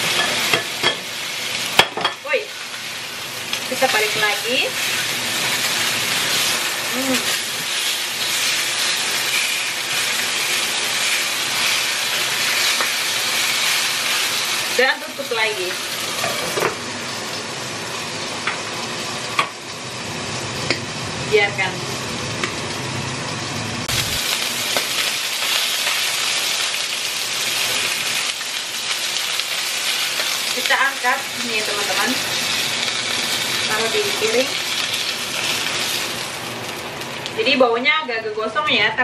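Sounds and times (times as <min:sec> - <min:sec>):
chicken sizzling in frying pan: 0:00.0 - 0:37.9.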